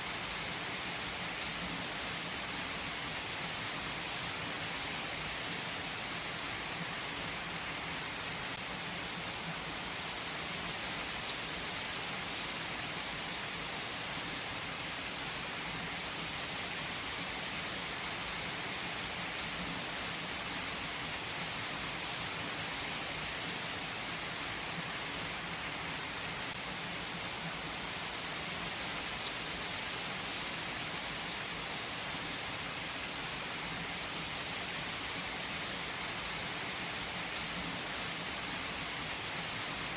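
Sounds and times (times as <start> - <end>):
heavy rain on trees: 0.0 - 39.9.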